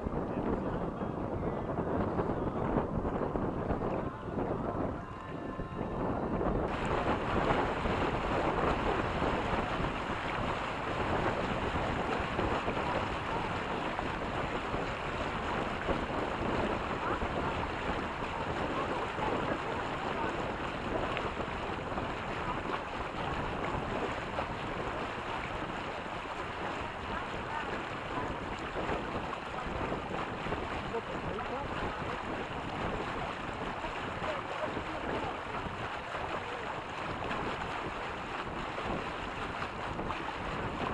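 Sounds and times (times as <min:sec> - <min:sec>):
water rushing past hulls: 0:00.0 - 0:40.9
wind buffeting microphone: 0:00.0 - 0:40.9.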